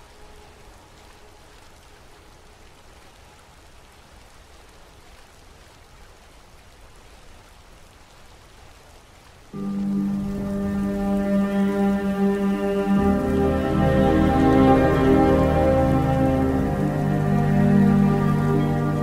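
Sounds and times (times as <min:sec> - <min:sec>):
rainfall hiss: 0:00.0 - 0:19.0.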